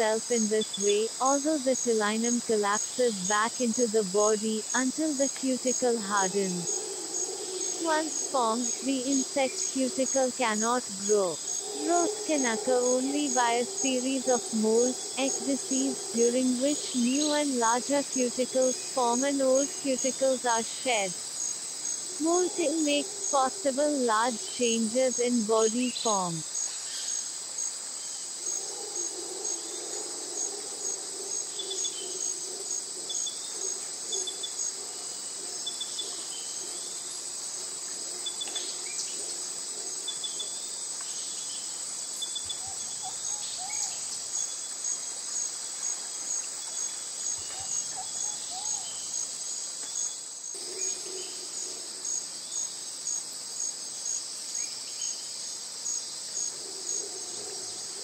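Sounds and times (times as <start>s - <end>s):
insects trilling: 0.0s - 58.0s
pulsing insect chirp: 0.0s - 58.0s.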